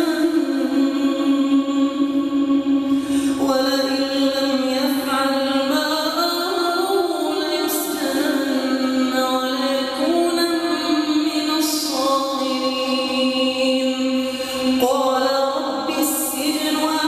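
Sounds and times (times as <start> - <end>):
person chanting melodically: 0.0 - 17.0.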